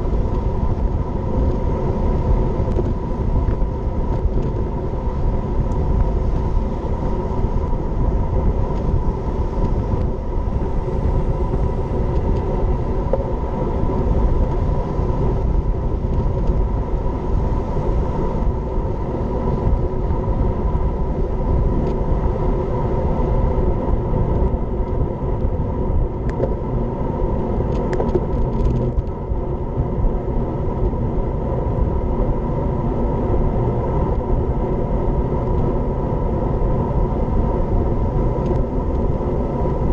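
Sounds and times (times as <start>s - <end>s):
tyres rolling on asphalt: 0.0s - 39.9s
wind buffeting microphone: 0.0s - 39.9s.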